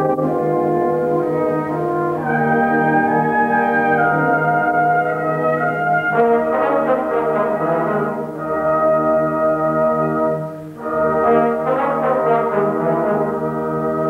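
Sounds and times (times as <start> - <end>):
brass band playing chords: 0.0 - 14.0.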